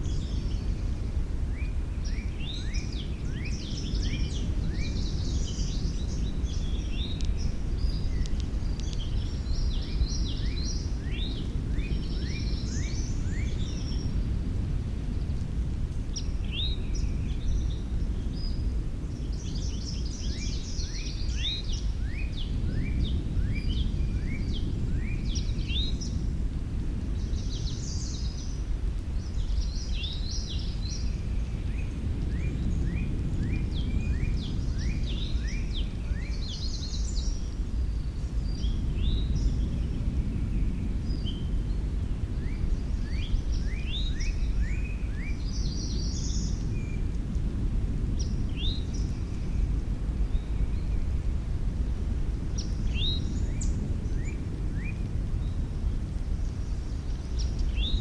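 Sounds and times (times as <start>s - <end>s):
songbirds chirping: 0.0s - 58.0s
steady low rumble: 0.0s - 58.0s.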